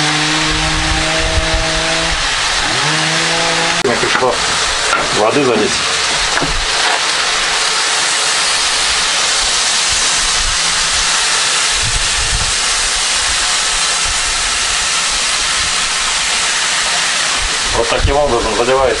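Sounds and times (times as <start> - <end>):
water sizzling in hot fat: 1.8 - 3.0, 3.8 - 19.0.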